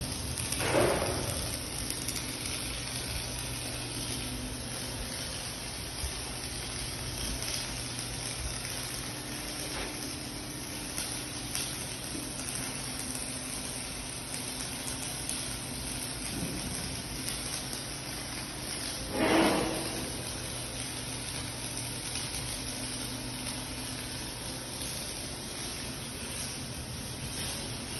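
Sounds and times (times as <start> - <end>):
welding arc frying hiss: 0.0 - 27.9.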